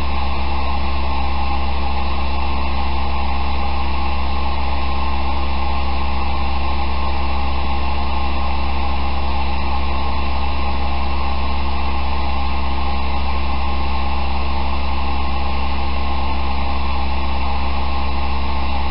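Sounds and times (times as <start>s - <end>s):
electric blower fan humming: 0.0s - 18.9s.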